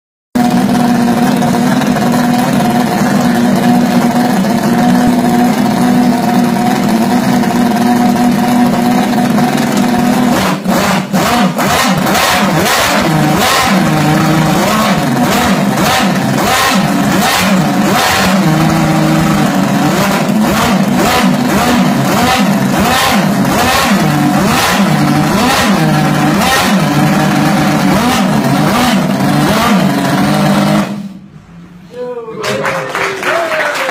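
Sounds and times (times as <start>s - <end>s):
model engine idling and revving: 0.4s - 31.5s.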